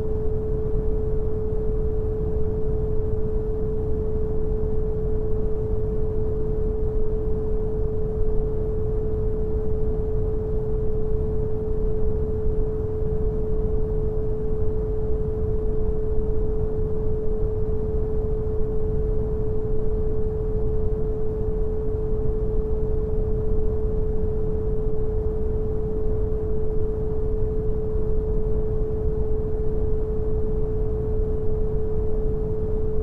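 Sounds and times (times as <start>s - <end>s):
low brown noise hiss: 0.0s - 33.0s
steady sine tone: 0.0s - 33.0s.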